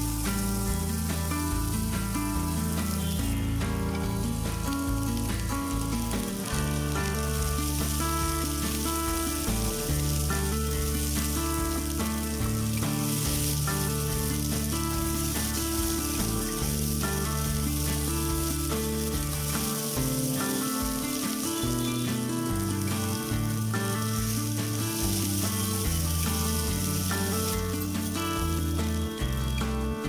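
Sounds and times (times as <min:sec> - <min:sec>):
background music: 0:00.0 - 0:30.0
corn sizzling in hot oil: 0:00.0 - 0:30.0.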